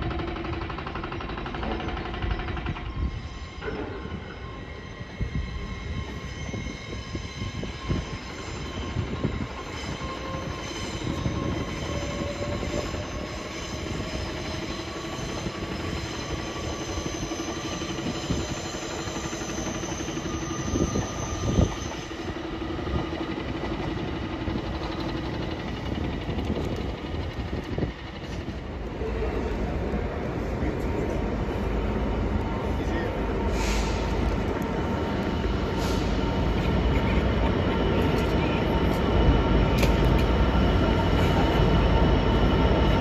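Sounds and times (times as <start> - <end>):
train traction equipment whining: 0.0 - 43.0.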